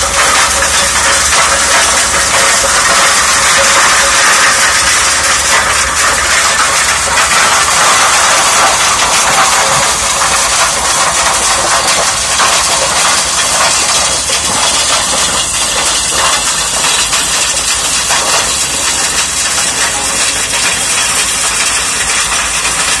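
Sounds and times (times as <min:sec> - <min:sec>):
flail mower shredding grass: 0:00.0 - 0:23.0
tractor engine under load: 0:00.0 - 0:23.0.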